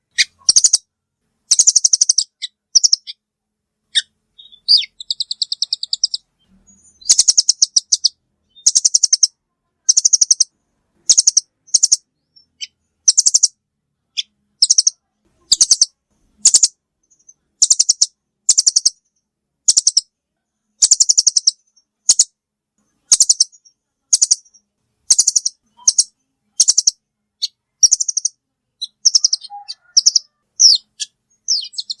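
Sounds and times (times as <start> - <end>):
bird high chattering calls: 0.1 - 0.9, 1.5 - 3.2, 3.9 - 10.5, 11.1 - 20.1, 20.8 - 22.4, 23.1 - 32.0.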